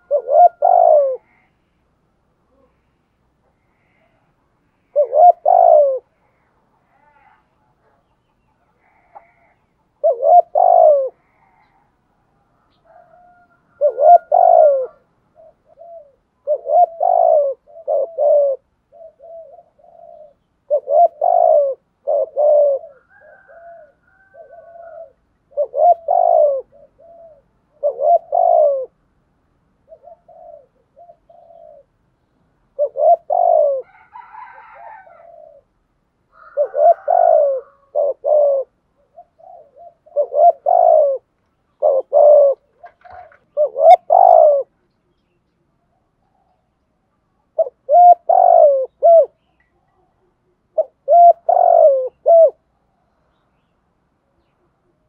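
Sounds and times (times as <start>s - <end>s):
dove cooing: 0.0s - 29.1s, 29.8s - 32.0s, 32.6s - 44.8s, 45.8s - 46.8s, 47.4s - 53.1s.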